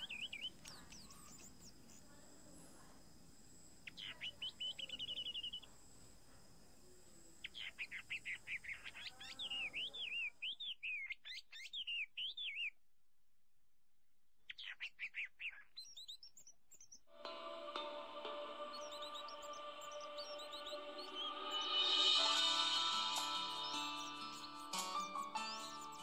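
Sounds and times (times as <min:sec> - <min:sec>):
songbird chirping and trilling: 0:00.0 - 0:03.0, 0:03.8 - 0:05.8, 0:07.4 - 0:12.8, 0:14.4 - 0:26.0.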